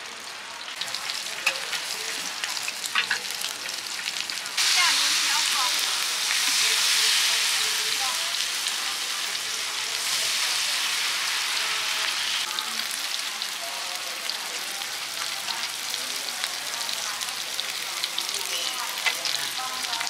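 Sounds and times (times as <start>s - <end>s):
batter sizzling in hot oil: 0.0s - 20.0s.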